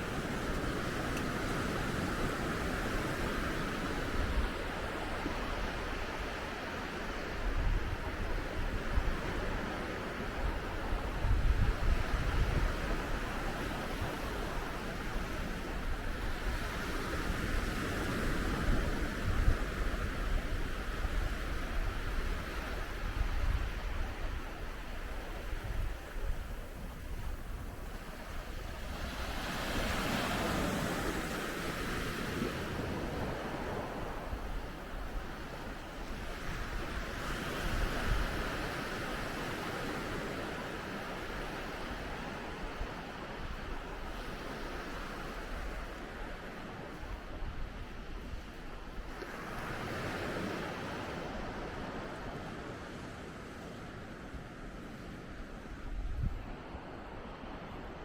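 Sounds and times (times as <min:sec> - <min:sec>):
surf washing on a beach: 0:00.0 - 0:58.0
wind gusting on the microphone: 0:00.0 - 0:58.0.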